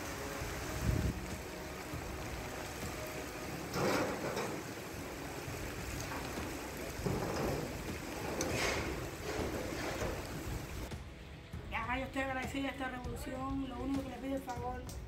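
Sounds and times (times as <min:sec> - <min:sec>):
storm rain and wind: 0:00.0 - 0:15.0.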